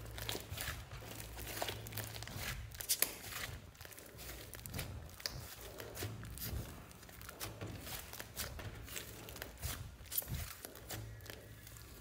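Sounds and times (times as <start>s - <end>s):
slime squishing and crackling: 0.0s - 12.0s.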